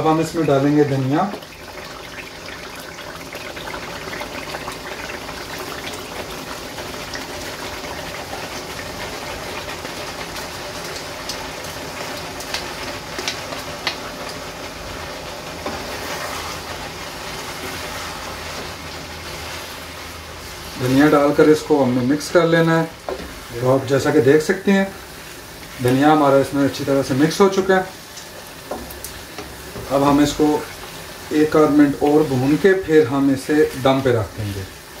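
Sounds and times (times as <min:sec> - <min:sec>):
curry sizzling in a frying pan: 0:00.0 - 0:35.0.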